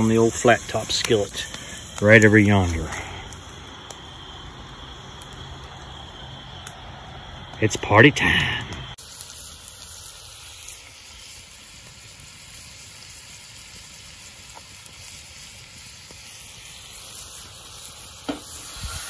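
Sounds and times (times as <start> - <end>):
mushrooms sizzling in oil: 0.0 - 19.0.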